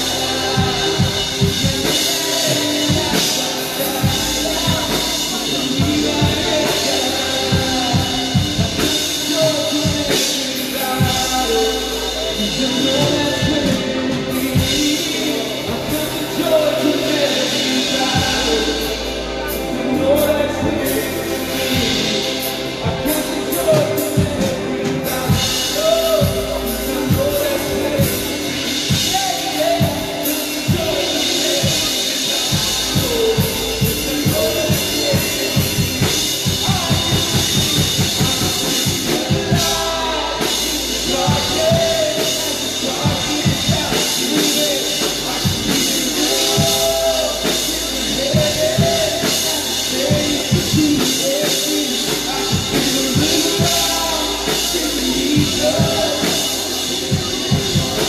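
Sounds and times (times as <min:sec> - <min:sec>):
acoustic guitars: 0:00.0 - 0:58.0
drum kit beat: 0:00.0 - 0:58.0
voices singing into microphones: 0:00.0 - 0:58.0.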